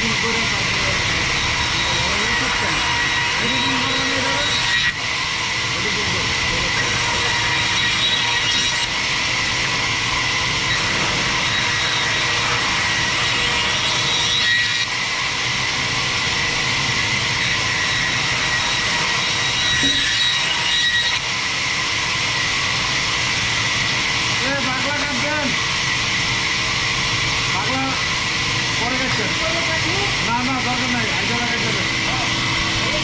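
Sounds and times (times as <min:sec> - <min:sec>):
band saw cutting log: 0:00.0 - 0:33.0.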